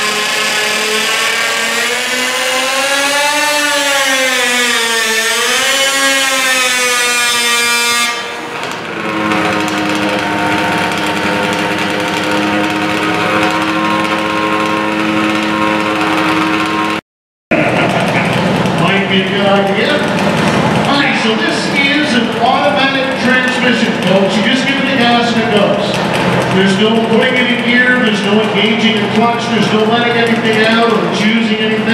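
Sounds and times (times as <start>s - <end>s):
engine running steadily: 0.0s - 6.7s, 8.1s - 31.9s
lawn tractor engine revving: 0.0s - 31.9s.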